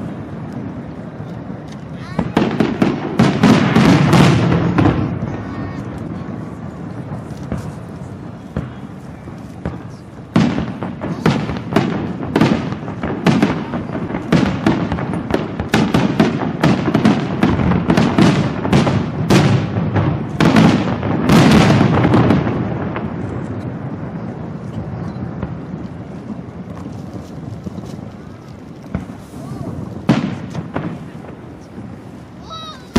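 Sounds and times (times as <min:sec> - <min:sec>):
fireworks bursting with sharp bangs: 0:00.0 - 0:32.9
fireworks rumble: 0:00.0 - 0:32.9.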